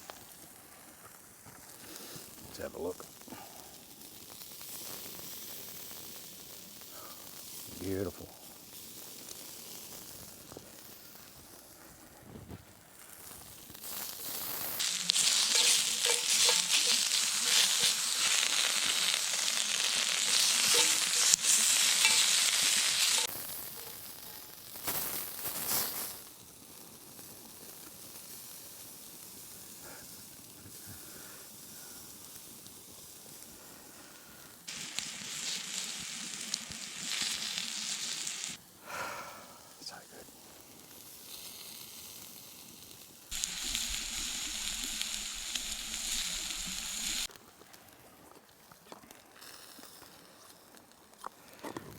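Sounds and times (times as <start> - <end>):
food sizzling over a campfire: 0.0 - 51.9.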